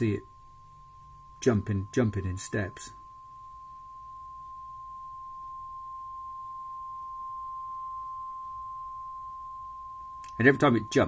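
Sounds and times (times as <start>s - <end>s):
sine-wave test tone: 0.0s - 11.0s.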